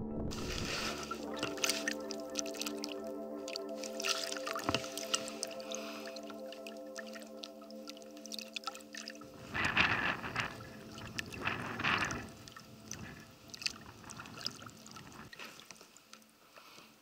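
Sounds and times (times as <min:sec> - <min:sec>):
water splashing: 0:00.3 - 0:16.3
water lapping: 0:00.4 - 0:16.3
water drips: 0:00.9 - 0:16.3.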